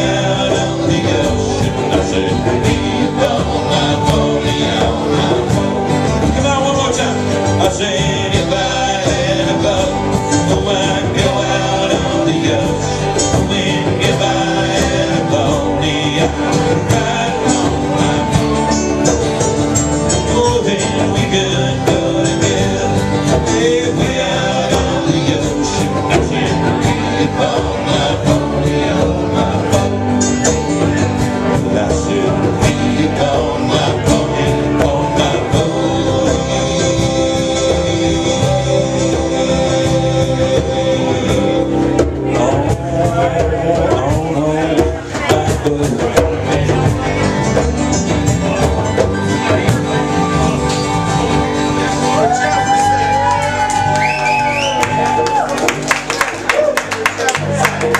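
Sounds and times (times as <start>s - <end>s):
live band playing country song: 0.0s - 57.9s.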